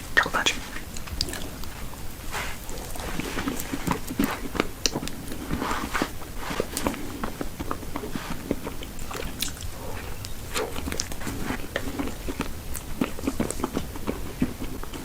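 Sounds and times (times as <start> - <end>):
chewing and biting food: 0.2 - 15.0.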